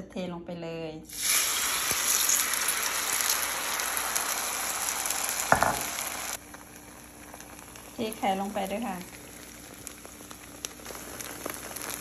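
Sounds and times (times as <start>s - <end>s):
food sizzling in a pan: 1.1s - 12.0s.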